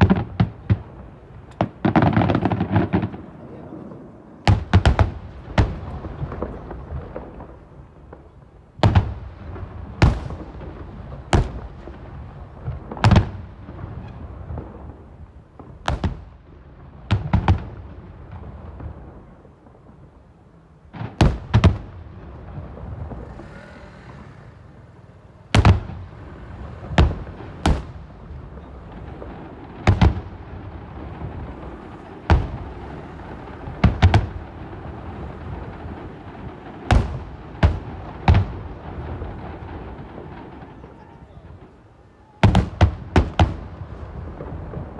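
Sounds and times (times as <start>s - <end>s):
rolling echo of booms: 0.0s - 44.9s.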